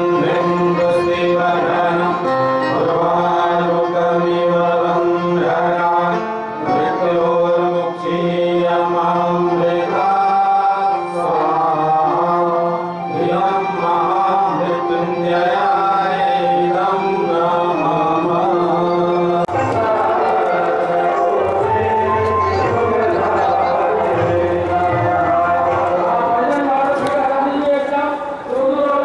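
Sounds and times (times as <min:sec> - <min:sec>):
chant-like singing: 0:00.0 - 0:29.0.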